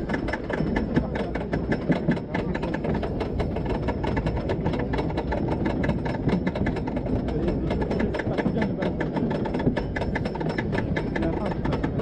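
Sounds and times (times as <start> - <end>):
roller coaster rumble and clatter: 0.0 - 12.0.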